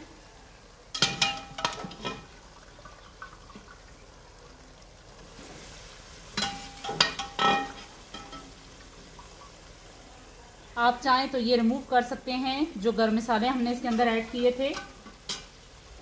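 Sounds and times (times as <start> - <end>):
faint sizzling: 0.0 - 16.0.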